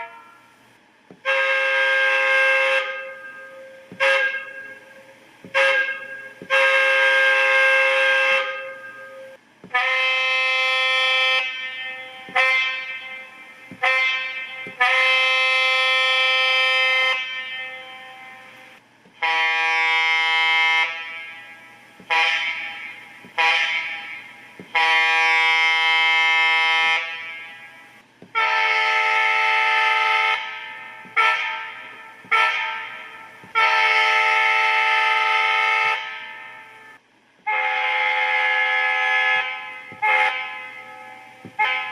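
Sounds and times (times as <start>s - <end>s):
synthesised locomotive air horn: 0.0s - 41.9s.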